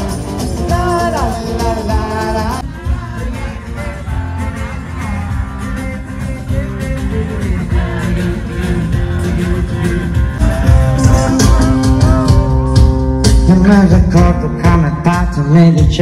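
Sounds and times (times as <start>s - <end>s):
live band playing upbeat song: 0.0s - 16.0s.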